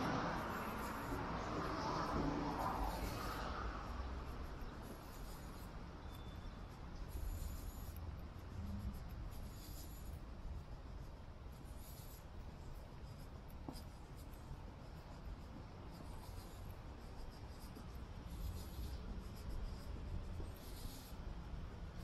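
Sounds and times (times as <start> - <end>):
low street rumble: 0.0 - 22.0.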